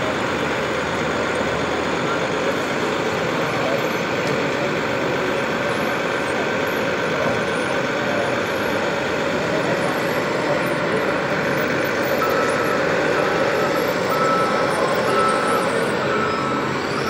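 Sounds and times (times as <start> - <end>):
model vehicles running: 0.0 - 17.0.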